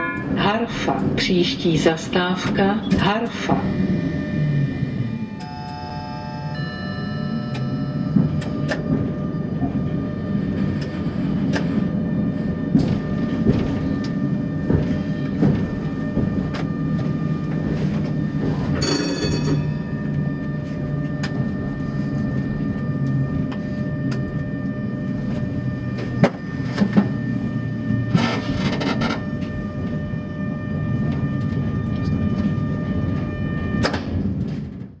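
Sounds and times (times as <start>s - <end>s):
tram wheels rumbling on rails: 0.0s - 35.0s
shrill wheel squeal: 3.6s - 34.4s.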